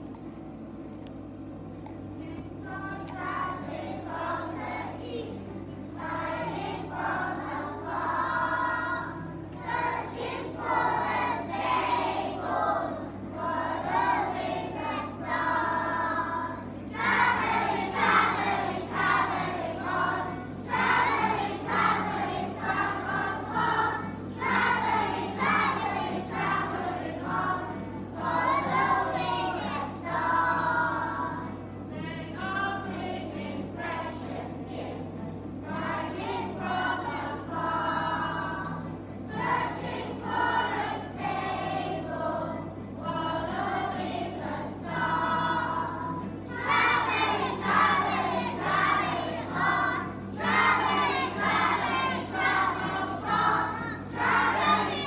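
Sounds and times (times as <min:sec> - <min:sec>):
children's choir singing: 0:02.2 - 0:55.0.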